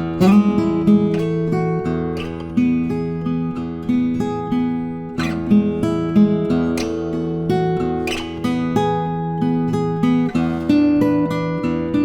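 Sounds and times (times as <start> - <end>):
acoustic guitar picked notes: 0.0 - 12.0.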